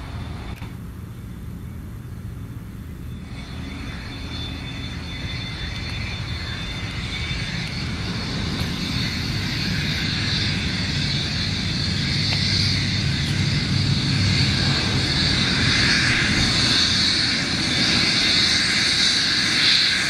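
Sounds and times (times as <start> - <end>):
jet engines whining at taxi: 0.0 - 20.0.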